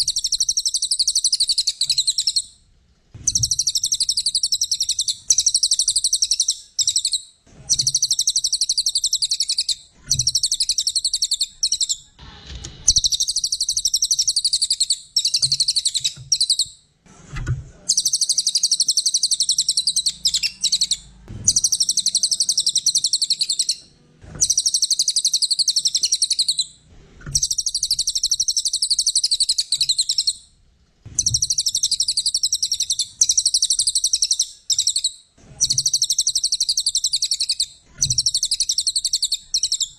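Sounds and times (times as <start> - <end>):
songbird singing trilled phrases: 0.0 - 2.5, 3.2 - 12.1, 12.9 - 16.8, 17.9 - 26.7, 27.3 - 30.4, 31.2 - 39.9.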